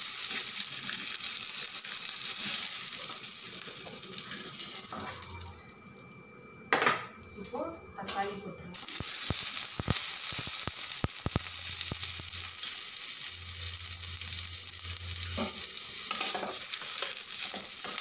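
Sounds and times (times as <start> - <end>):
tomatoes sizzling and popping in oil: 0.0 - 5.8, 8.7 - 18.0.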